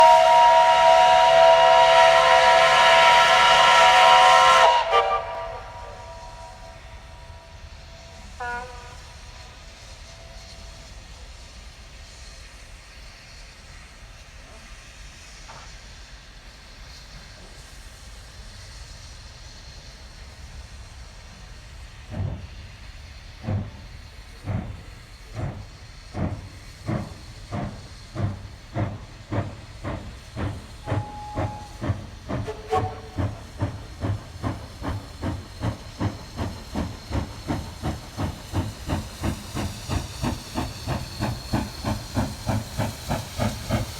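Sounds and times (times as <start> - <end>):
steam hiss: 0.0 - 43.9
steam locomotive chuffing: 0.0 - 43.9.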